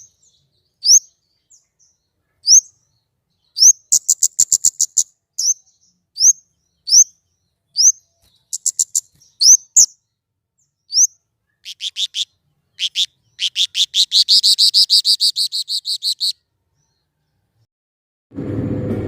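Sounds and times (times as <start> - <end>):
small songbird chirping: 0.0 - 17.6.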